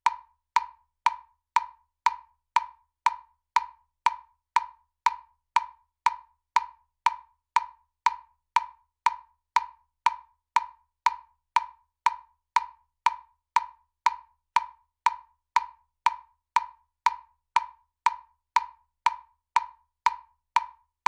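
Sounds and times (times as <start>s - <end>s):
metronome clicking: 0.0s - 20.8s.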